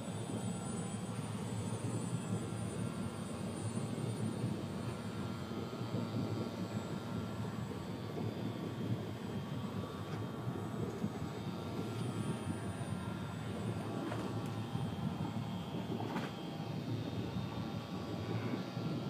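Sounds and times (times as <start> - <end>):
model plane propeller droning: 0.0 - 19.0.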